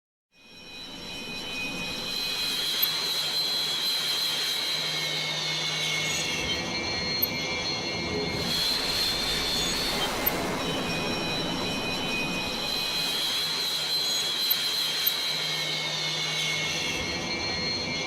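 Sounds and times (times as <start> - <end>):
jet engine turbine whine: 0.5 - 18.0.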